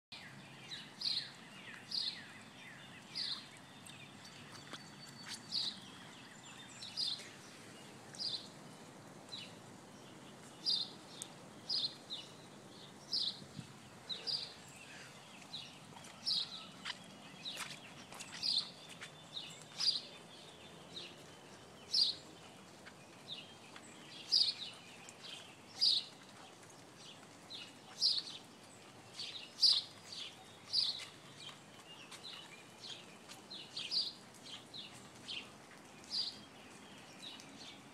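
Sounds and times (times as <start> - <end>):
bird chirping: 0.1 - 37.9.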